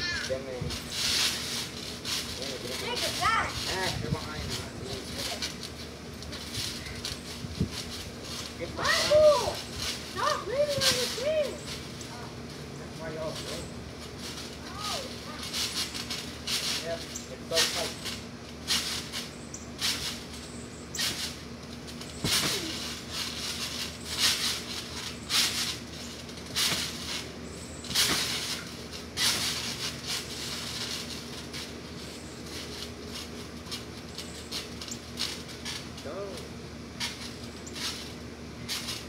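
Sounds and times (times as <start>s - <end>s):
steady low hum: 0.0s - 39.0s
trampoline creaking swish: 0.0s - 39.0s.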